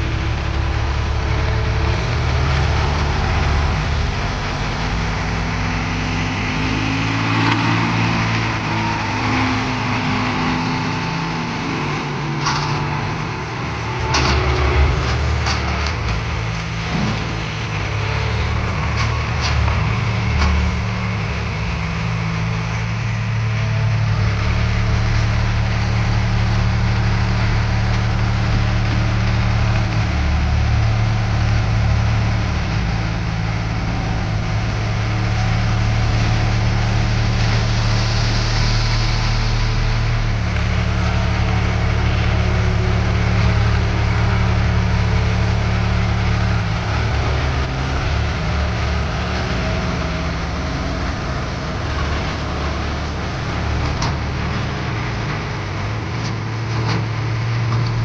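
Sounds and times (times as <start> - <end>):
heavy machinery diesel engine running: 0.0 - 58.0.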